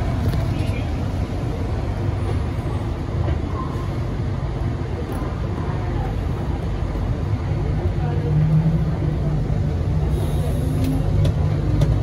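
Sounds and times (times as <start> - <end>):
people mover low rumble: 0.0 - 12.0.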